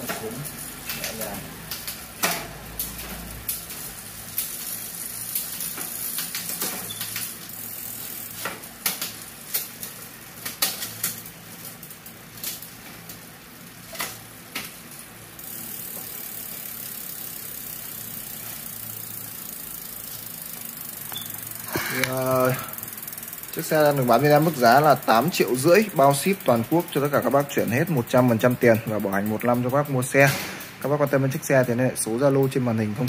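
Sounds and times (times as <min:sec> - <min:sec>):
freewheeling drivetrain whirring: 0:00.0 - 0:31.8
bicycle chain rattle: 0:00.0 - 0:32.6
bicycle gears clicking: 0:00.0 - 0:33.0.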